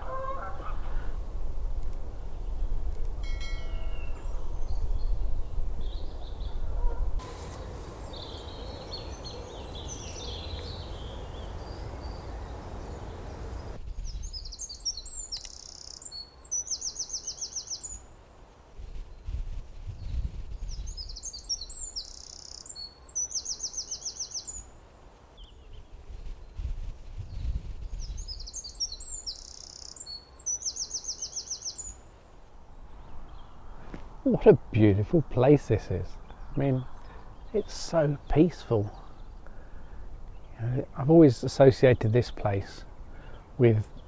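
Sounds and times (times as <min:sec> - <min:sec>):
songbirds singing: 0:03.7 - 0:18.2, 0:18.9 - 0:44.0.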